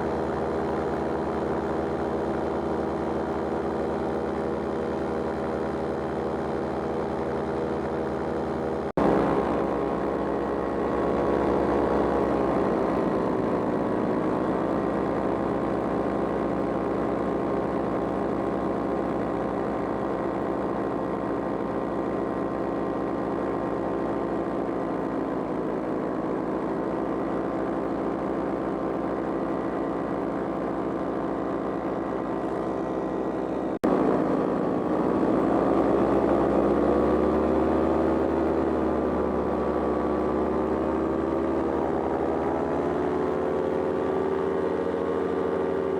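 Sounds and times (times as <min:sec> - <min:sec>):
paraglider engine and propeller: 0:00.0 - 0:45.9.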